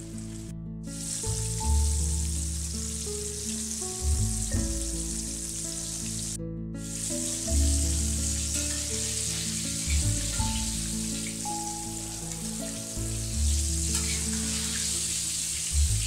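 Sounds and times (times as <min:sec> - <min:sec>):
light instrumental music: 0:00.0 - 0:16.0
oil sizzling deep-frying: 0:00.0 - 0:16.0.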